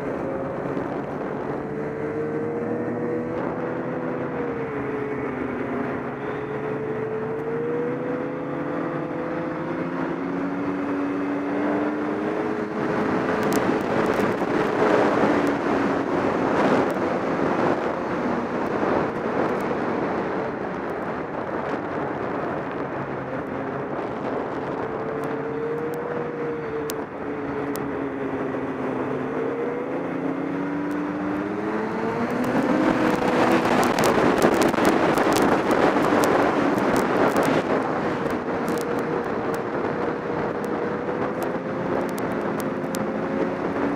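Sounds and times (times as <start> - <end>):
snowmobile engine running: 0.0 - 43.9.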